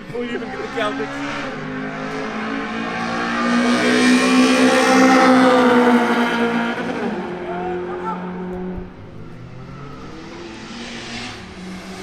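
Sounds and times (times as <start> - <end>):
racing car engine passing: 0.0 - 12.0.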